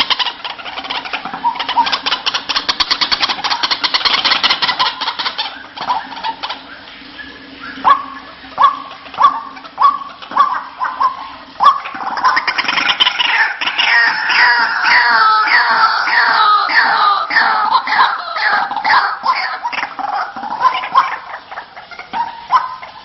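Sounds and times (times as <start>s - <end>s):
waterhen calling: 0.0s - 23.0s.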